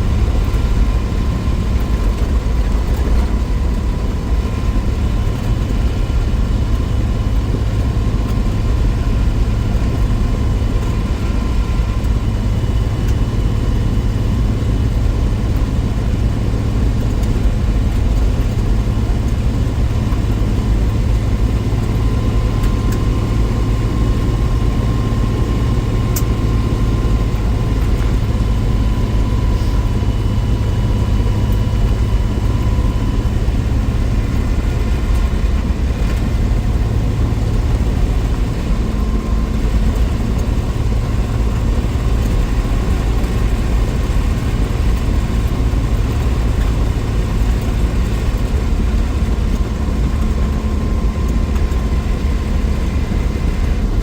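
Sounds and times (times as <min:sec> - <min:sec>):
engine deep rumble: 0:00.0 - 0:54.0
faint steady whine: 0:00.0 - 0:54.0.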